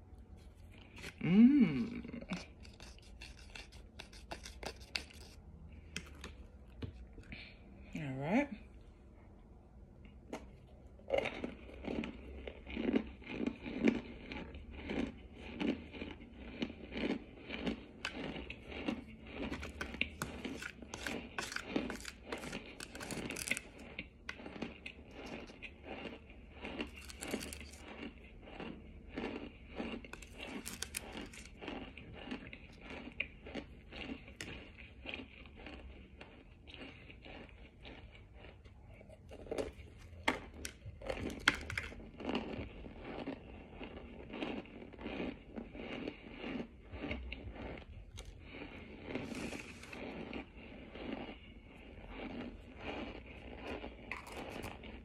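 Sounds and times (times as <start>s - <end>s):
crunching and chewing: 0.0s - 7.7s, 9.8s - 55.0s.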